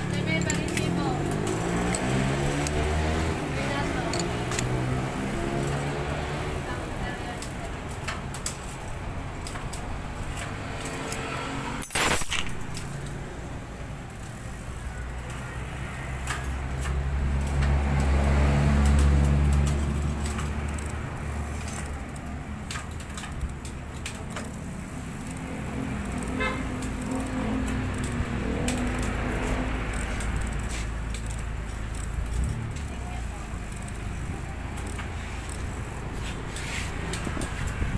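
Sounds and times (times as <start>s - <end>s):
vehicle engine hum: 0.0s - 37.9s.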